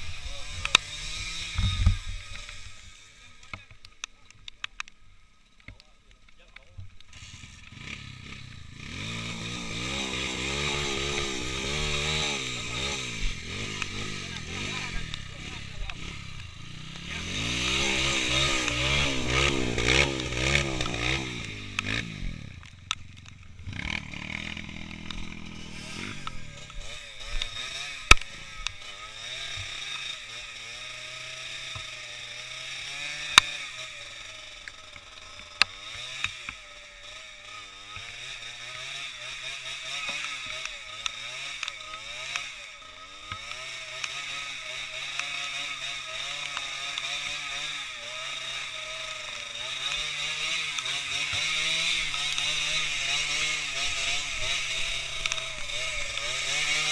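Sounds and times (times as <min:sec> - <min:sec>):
motorcycle engine revving: 0:00.0 - 0:05.9, 0:06.5 - 0:56.9.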